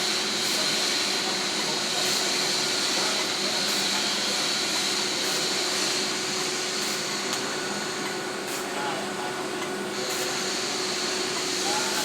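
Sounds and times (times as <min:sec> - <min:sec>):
welding arc hissing and buzzing: 0:00.0 - 0:08.9, 0:09.9 - 0:12.0.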